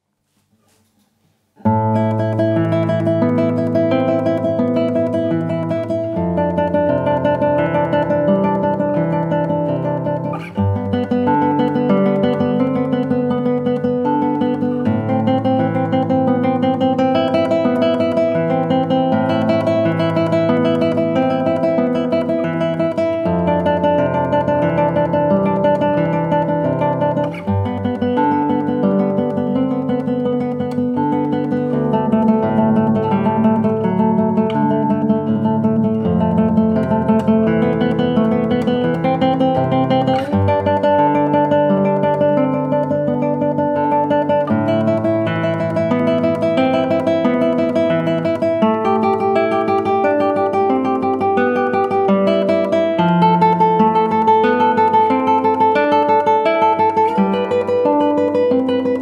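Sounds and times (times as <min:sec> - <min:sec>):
classical guitar tremolo piece: 0:01.6 - 0:59.0.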